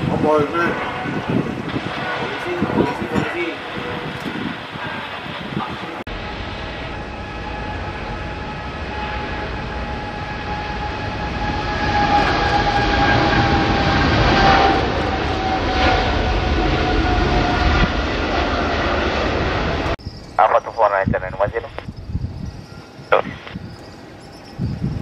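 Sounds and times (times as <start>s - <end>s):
jet engines rumbling and whining: 0.0s - 25.0s.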